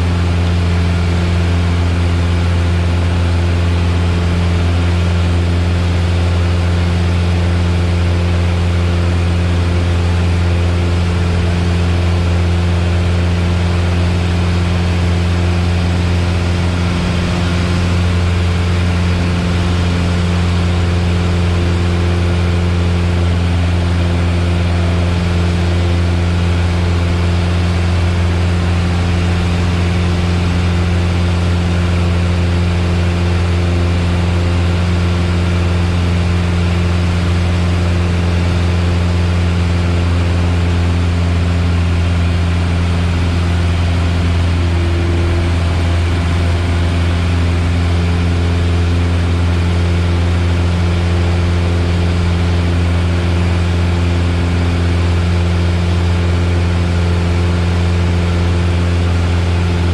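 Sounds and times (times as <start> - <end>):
airplane engine droning: 0.0 - 59.9.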